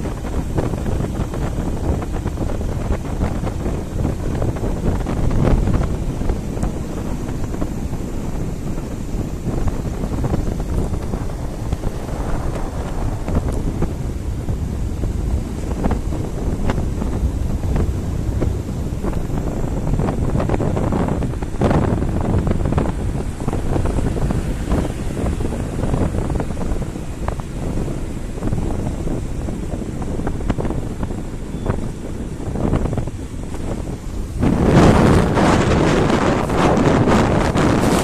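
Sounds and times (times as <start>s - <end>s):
motorbike ride rumble: 0.0s - 38.0s
wind buffeting microphone: 0.0s - 38.0s.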